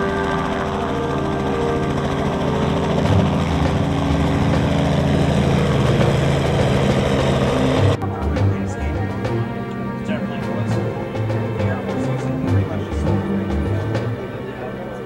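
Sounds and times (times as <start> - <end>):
helicopter flying low past: 0.0 - 15.0.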